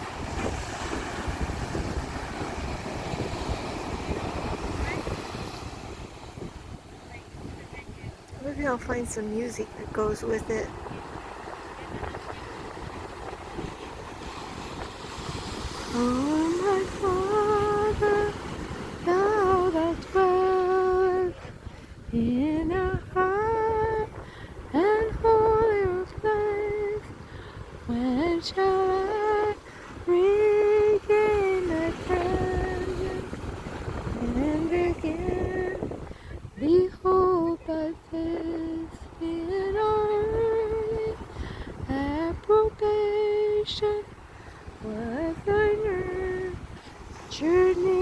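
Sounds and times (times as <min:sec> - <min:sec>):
woman singing unaccompanied: 0:08.1 - 0:13.8, 0:15.2 - 0:48.0.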